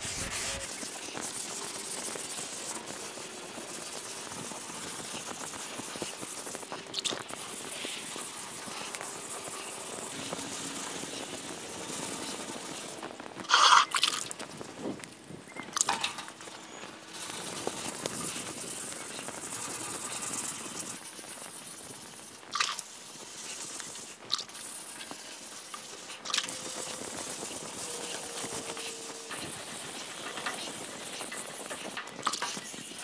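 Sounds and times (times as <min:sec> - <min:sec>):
sandpaper scratching wet surface: 0:00.0 - 0:14.4, 0:17.1 - 0:33.0.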